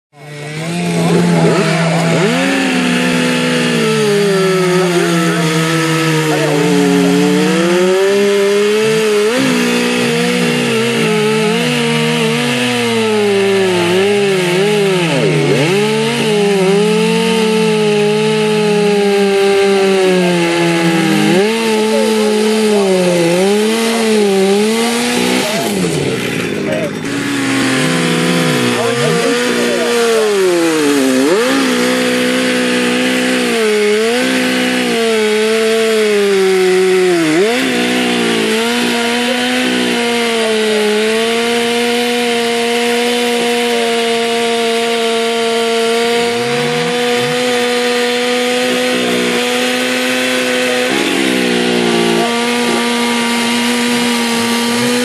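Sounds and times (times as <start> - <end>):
chainsaw cutting log: 0.1 - 55.0.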